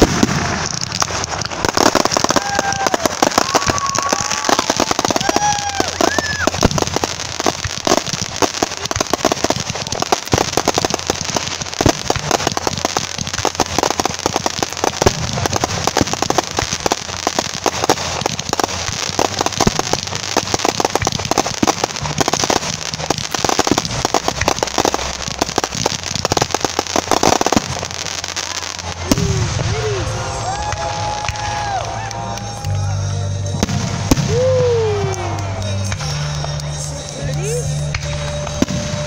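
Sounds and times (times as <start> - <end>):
fireworks popping and crackling: 0.0 - 39.0.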